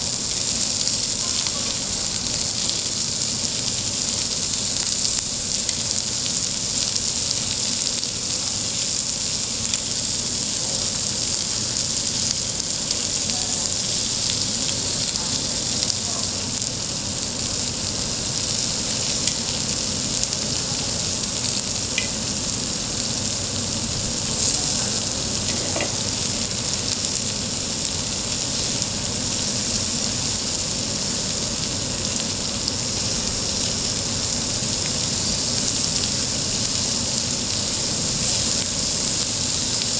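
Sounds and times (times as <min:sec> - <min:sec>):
food sizzling on hot metal: 0:00.0 - 0:39.9.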